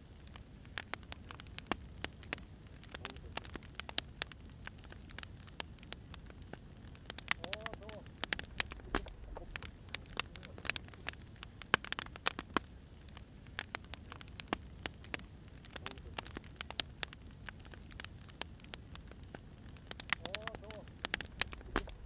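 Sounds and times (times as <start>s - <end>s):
fire rumbling and hissing: 0.0s - 22.0s
firewood popping and snapping: 0.0s - 22.0s.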